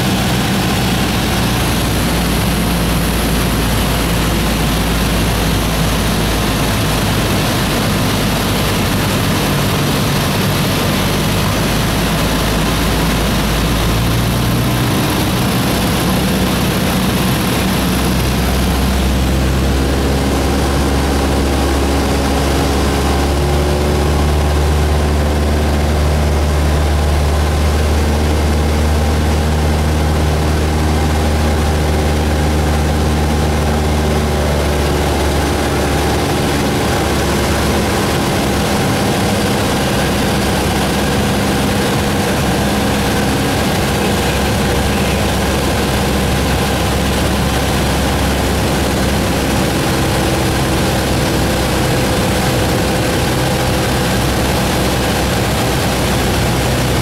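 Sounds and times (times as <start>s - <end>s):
light plane engine droning: 0.0s - 57.0s.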